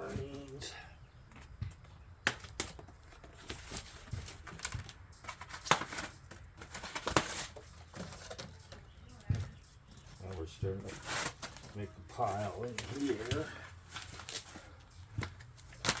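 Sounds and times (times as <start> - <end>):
packaging clicks and rustles: 1.4 - 16.0.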